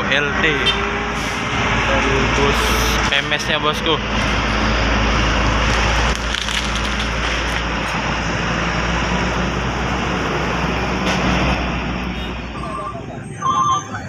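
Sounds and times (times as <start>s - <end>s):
heavy road traffic rumbling: 0.0s - 14.0s
low engine hum: 0.0s - 14.0s.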